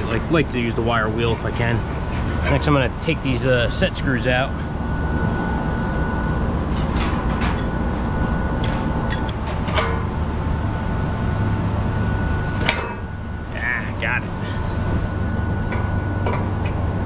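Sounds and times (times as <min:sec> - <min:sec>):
air-conditioning equipment humming: 0:00.0 - 0:17.0.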